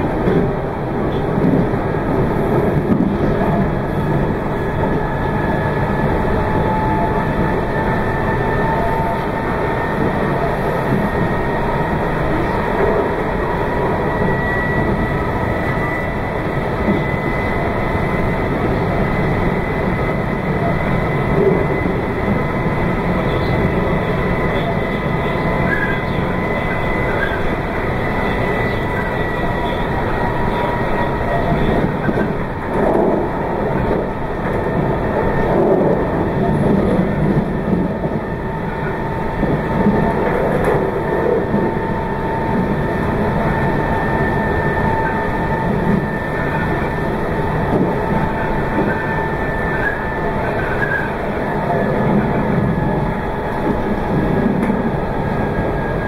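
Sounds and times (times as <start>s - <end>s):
faint train whine: 0.0s - 56.0s
train wheels rumbling on track: 0.0s - 56.0s.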